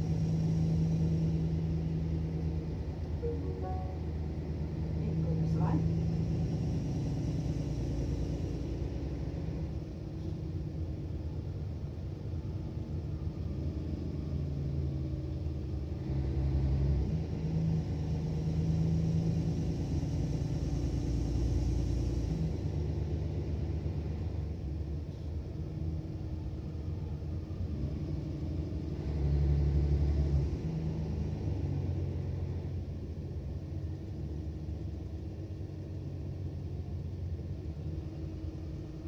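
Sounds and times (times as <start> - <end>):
bus diesel engine rumbling: 0.0 - 39.0.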